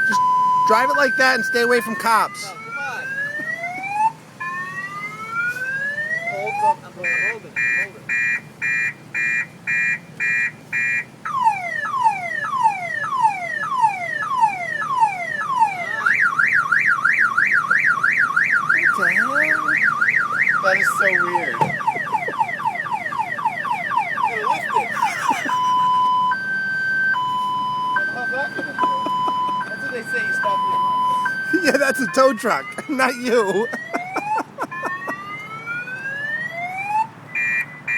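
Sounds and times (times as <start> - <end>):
car alarm siren: 0.0 - 37.9.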